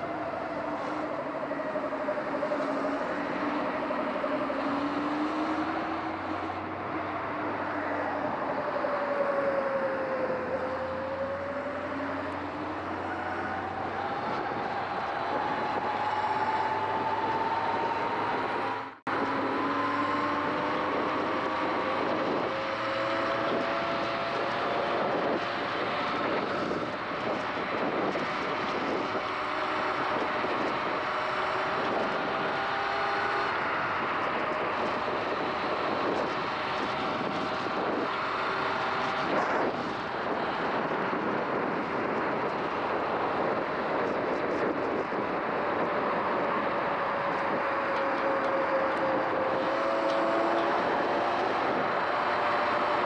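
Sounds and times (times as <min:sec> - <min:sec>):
wind and wet tyre noise: 0:00.0 - 0:53.0.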